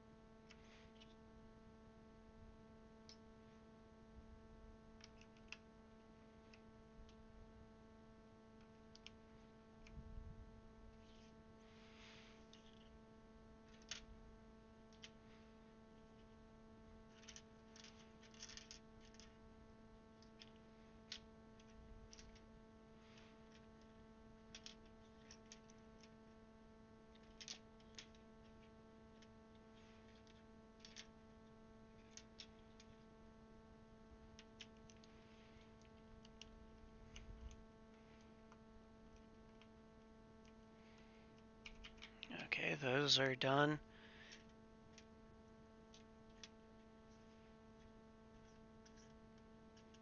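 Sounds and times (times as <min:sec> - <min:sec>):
low electrical hum: 0:00.0 - 0:50.0.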